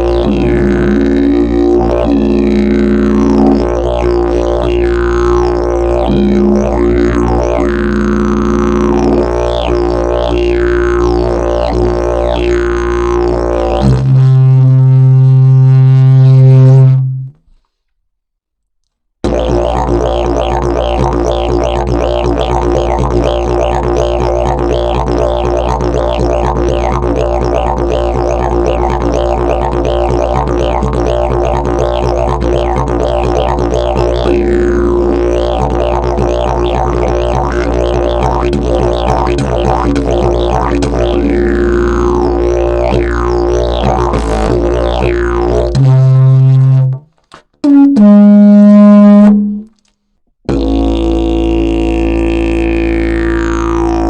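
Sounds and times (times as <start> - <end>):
didgeridoo low drone: 0.0 - 17.3, 19.2 - 47.0, 50.5 - 54.0
loud higher didgeridoo toots: 0.0 - 17.4, 19.2 - 49.8, 50.5 - 54.0.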